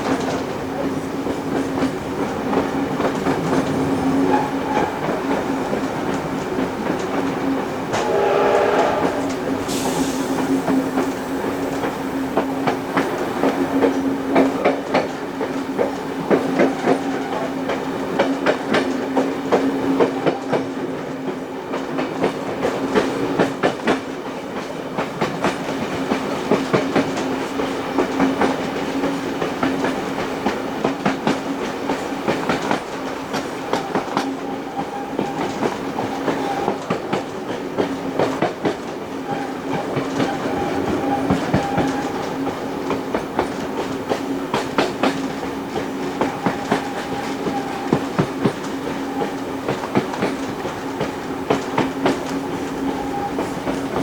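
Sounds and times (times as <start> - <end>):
train running hum: 0.0 - 54.0
train wheels clattering over rail joints: 0.0 - 54.0.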